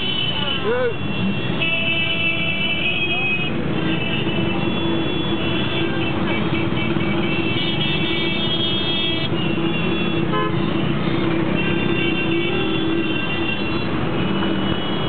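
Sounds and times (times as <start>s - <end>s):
din of traffic engines: 0.0s - 15.0s
horns honking: 0.0s - 15.0s.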